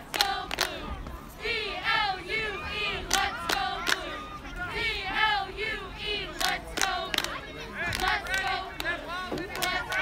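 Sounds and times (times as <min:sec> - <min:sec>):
spectators shouting and cheering: 0:00.0 - 0:10.0.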